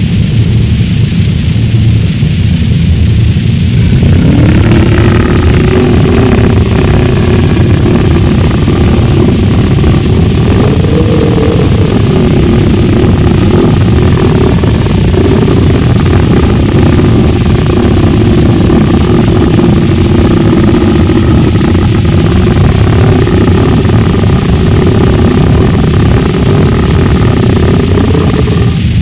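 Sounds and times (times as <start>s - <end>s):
heavily distorted noise music: 0.0s - 29.0s
low rumble: 0.0s - 29.0s
wavering drone: 0.0s - 29.0s.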